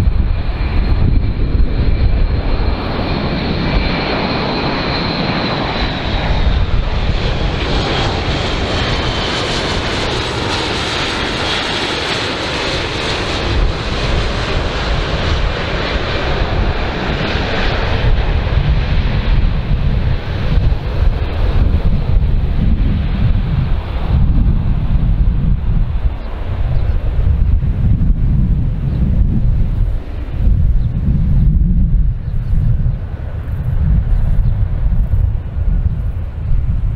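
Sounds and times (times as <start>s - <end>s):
high engine whine: 0.0s - 36.9s
turboprop aircraft drone: 0.0s - 36.9s.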